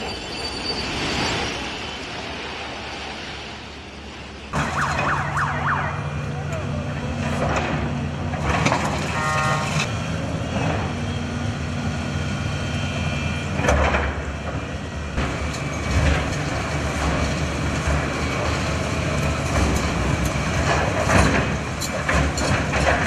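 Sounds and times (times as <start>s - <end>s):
heavy diesel machine running: 3.9s - 23.0s.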